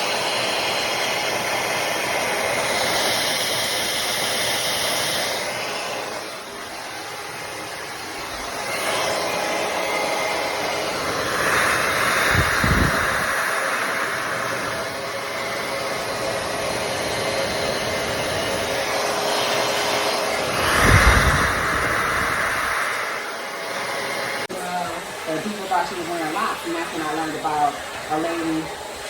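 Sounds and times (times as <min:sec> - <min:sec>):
hot air brush blowing: 0:00.0 - 0:24.5.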